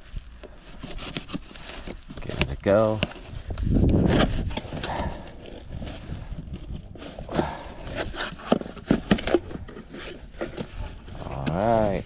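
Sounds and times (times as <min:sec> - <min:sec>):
cardboard scraping and rustling: 0:00.0 - 0:12.0.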